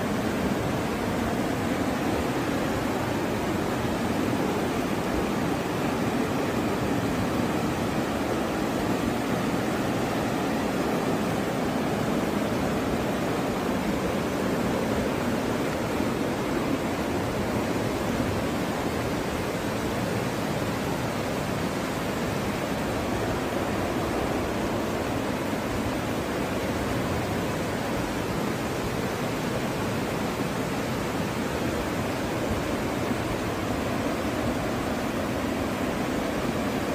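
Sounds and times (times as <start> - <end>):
floodwater rushing: 0.0 - 36.9.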